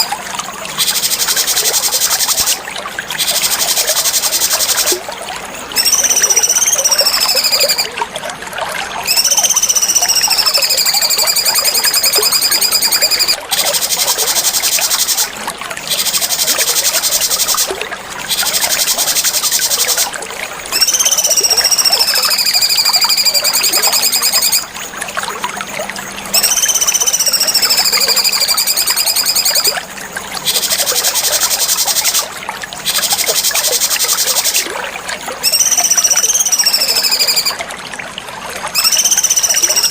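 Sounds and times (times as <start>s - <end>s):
running water trickling: 0.0s - 39.9s
bird whistling and trilling: 0.7s - 4.9s, 5.7s - 8.0s, 9.0s - 15.3s, 15.9s - 17.7s, 18.3s - 24.7s, 26.3s - 29.8s, 30.4s - 34.7s, 35.4s - 37.6s, 38.7s - 39.9s.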